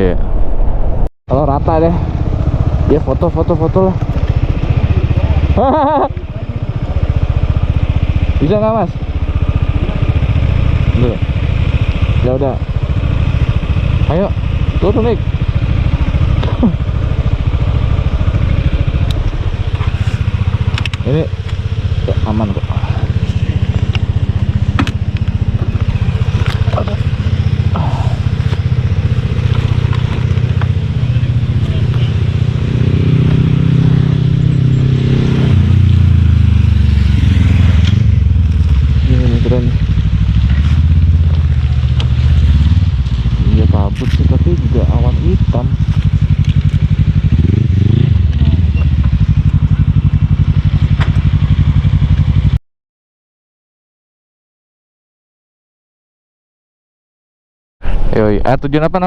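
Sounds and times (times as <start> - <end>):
scooter engine running: 1.9 - 52.6.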